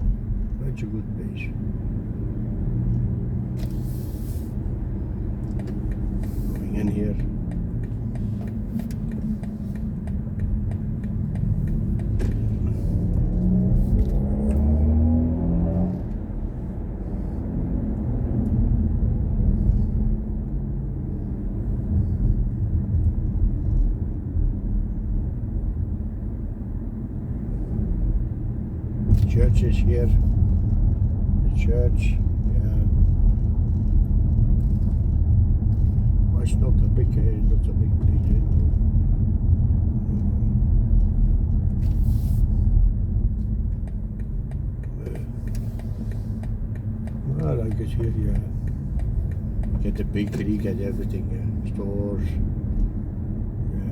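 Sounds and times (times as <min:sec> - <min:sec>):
car road and tyre rumble: 0:00.0 - 0:53.9.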